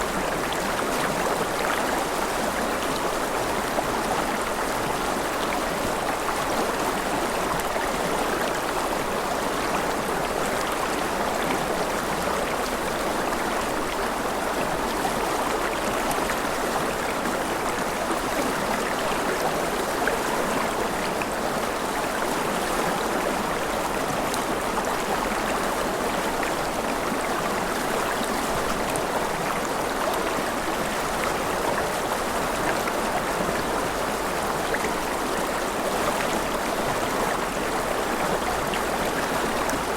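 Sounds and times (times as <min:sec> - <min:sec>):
steady gentle rain: 0:00.0 - 0:39.9.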